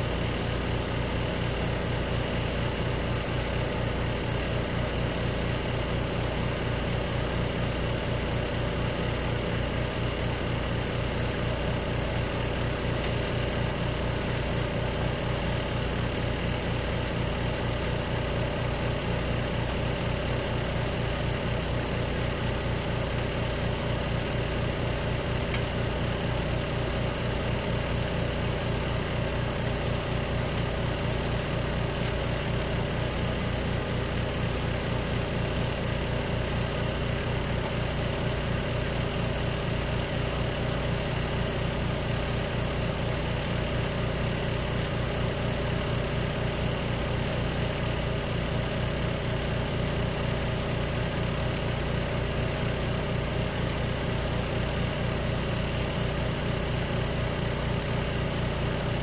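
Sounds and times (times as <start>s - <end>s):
washing machine motor humming: 0.0s - 59.0s.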